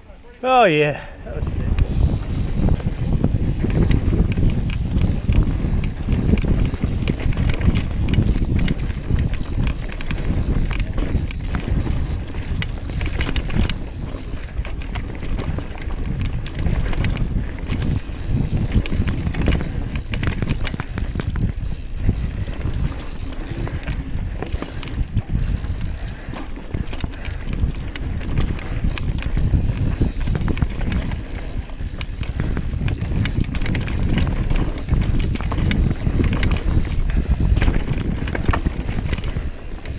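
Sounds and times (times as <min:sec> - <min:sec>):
bike clicking and rattling: 0:00.0 - 0:39.9
wind buffeting microphone: 0:00.0 - 0:39.9
bike tyres rumbling on dirt: 0:00.1 - 0:39.9.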